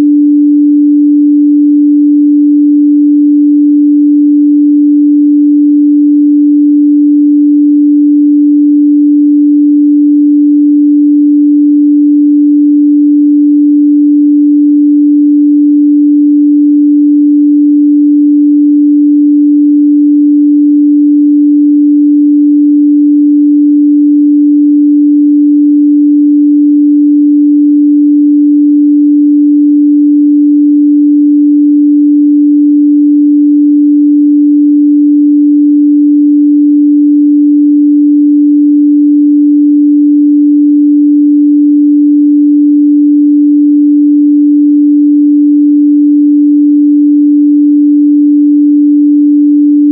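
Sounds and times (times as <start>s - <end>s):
sine-wave test tone: 0.0s - 49.9s.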